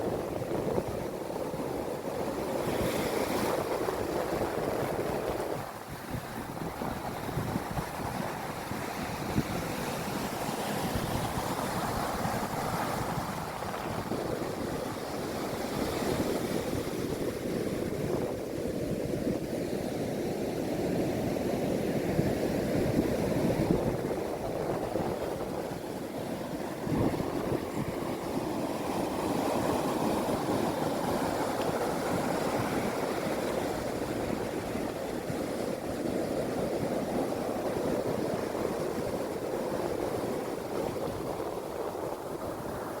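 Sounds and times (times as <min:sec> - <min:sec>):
sea waves breaking: 0:00.0 - 0:19.4, 0:20.5 - 0:43.0.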